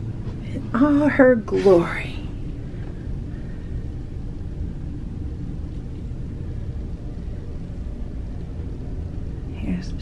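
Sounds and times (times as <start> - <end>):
machinery and ventilation rumble: 0.0 - 10.0.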